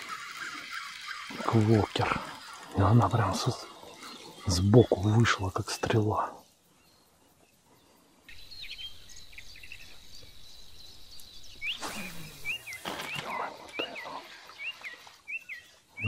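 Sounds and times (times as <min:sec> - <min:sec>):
outdoor hiss: 0:00.0 - 0:15.9
bird chirping: 0:00.0 - 0:16.0.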